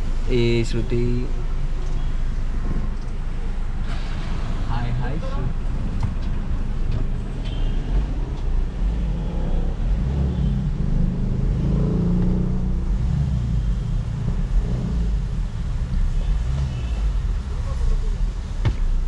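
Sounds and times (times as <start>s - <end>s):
car engine revving: 2.5s - 19.0s.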